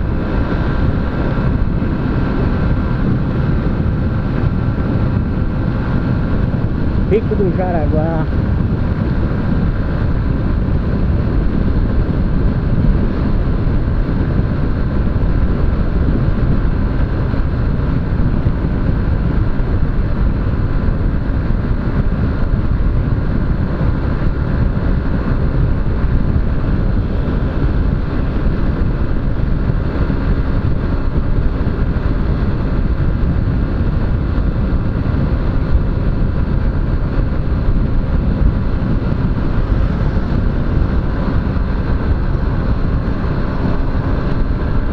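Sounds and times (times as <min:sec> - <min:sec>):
motorcycle engine cruising: 0:00.0 - 0:44.9
wind buffeting microphone: 0:00.0 - 0:44.9.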